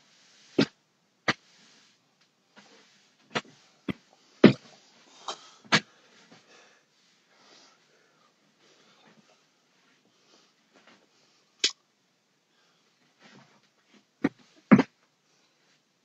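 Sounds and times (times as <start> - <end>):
broom sweeping floor: 0.0 - 11.5, 13.0 - 15.9.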